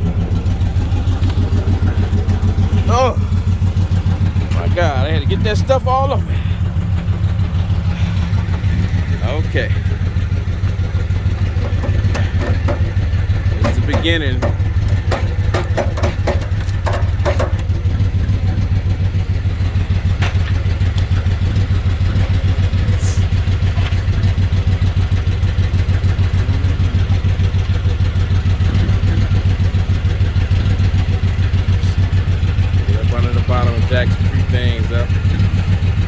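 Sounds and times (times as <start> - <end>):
engine idling: 0.0 - 36.0.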